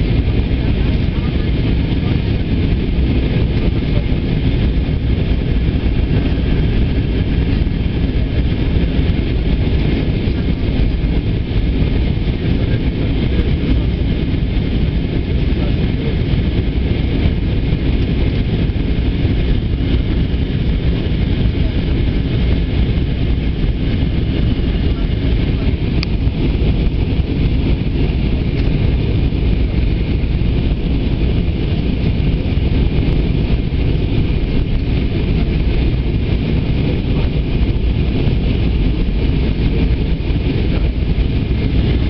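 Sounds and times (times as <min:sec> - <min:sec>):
airliner cabin engine roar: 0:00.0 - 0:42.0.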